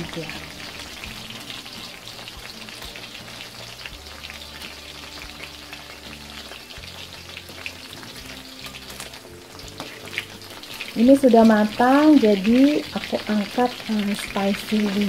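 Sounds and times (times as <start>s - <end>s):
chicken wings sizzling in hot oil: 0.0s - 15.0s
spatula stirring in oil: 0.5s - 15.0s.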